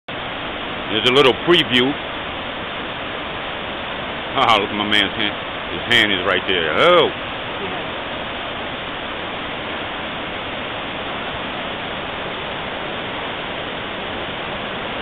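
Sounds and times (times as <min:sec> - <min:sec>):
water rushing over rocks: 0:00.1 - 0:15.0.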